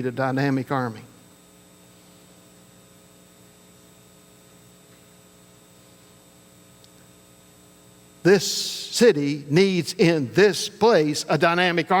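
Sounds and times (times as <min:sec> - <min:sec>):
faint electrical mains hum: 0:00.0 - 0:12.0.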